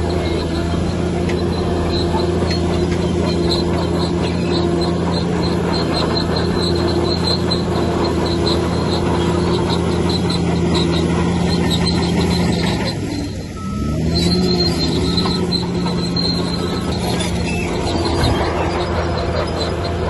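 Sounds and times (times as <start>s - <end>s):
bulldozer diesel engine running: 0.0s - 20.0s
crawler tracks squealing: 0.0s - 20.0s.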